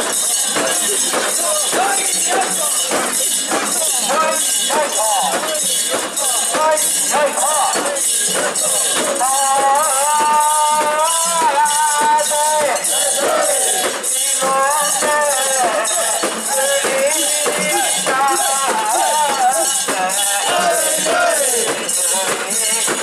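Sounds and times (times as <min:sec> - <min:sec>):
group chanting and singing: 0:00.0 - 0:23.0
metal rings jangling: 0:00.0 - 0:23.0.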